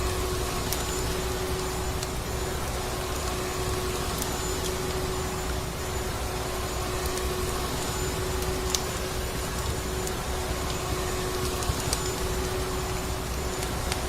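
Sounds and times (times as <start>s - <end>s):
wood fire crackles: 0.0s - 14.0s.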